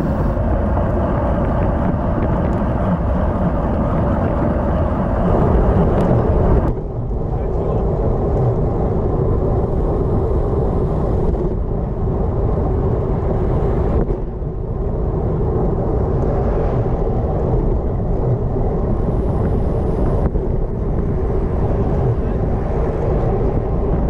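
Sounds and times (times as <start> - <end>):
road rumble: 0.0 - 24.0
wind rush: 0.0 - 24.0.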